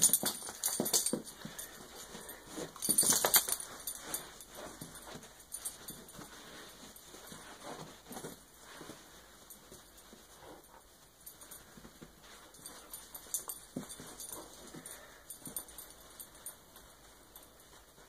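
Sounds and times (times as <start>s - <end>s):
dog play noises: 0.0s - 18.0s.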